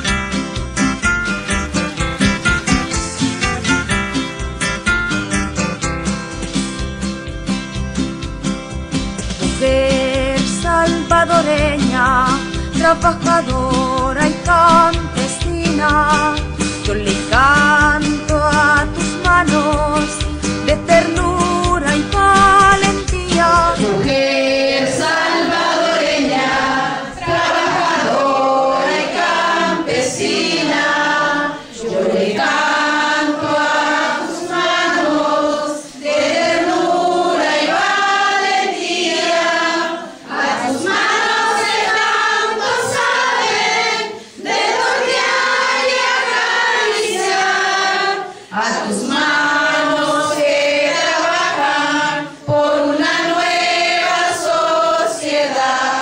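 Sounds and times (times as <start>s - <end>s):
women singing together: 9.6s - 56.0s.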